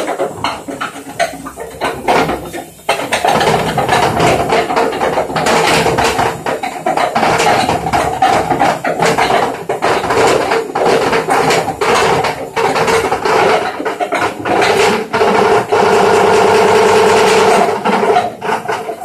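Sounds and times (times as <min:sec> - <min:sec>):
washing machine drum knocking: 0:00.0 - 0:19.0.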